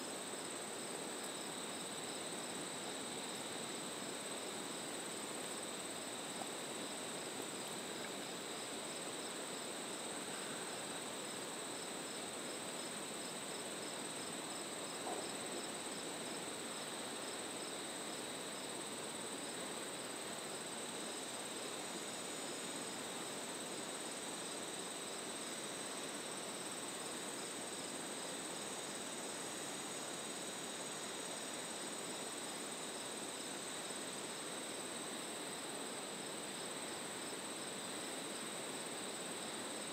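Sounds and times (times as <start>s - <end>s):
crickets chirping: 0.0s - 39.9s
insects trilling: 0.2s - 39.9s.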